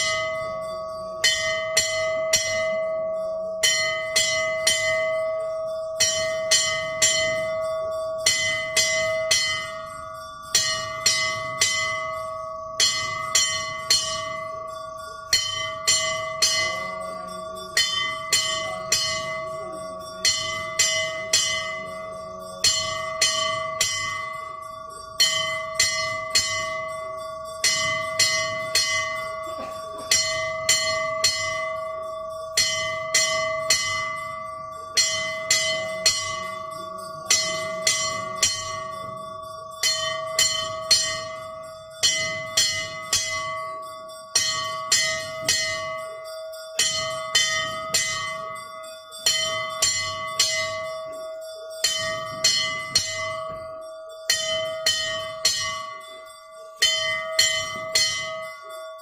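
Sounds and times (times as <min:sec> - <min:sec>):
steady ringing tone: 0:00.0 - 0:59.0
temple bells ringing: 0:00.0 - 0:59.0.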